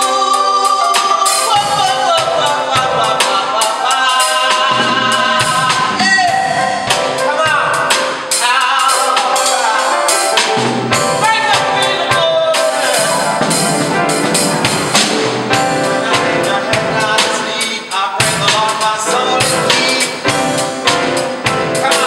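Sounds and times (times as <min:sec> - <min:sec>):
person singing: 0:00.0 - 0:22.0
song with piano and percussion: 0:00.0 - 0:22.0.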